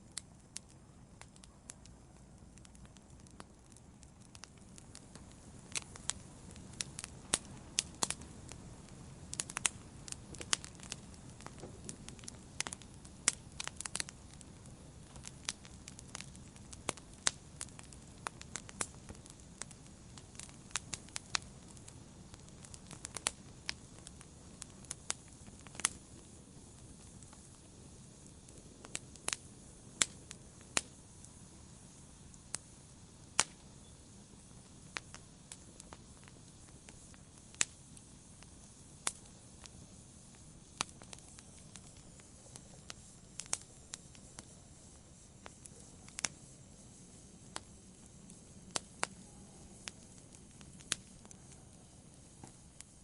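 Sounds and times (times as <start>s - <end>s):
campfire burning with hiss: 0.0s - 53.0s
wood crackling and popping: 0.0s - 53.0s.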